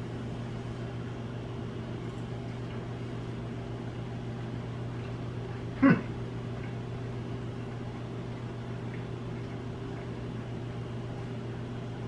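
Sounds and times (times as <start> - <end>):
appliance hum with faint hiss: 0.0 - 12.0.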